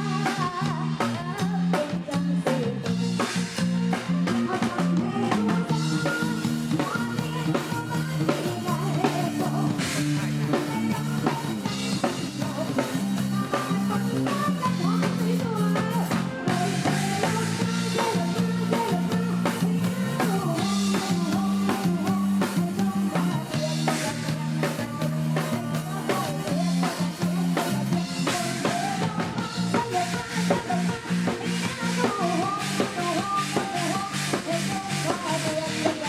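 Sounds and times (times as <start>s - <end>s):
drum kit steady beat: 0.0s - 36.0s.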